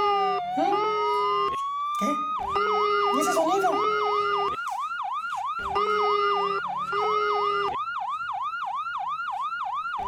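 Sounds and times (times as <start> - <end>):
ambulance siren warbling: 0.0 - 10.0
steady lower siren tone: 0.0 - 10.0.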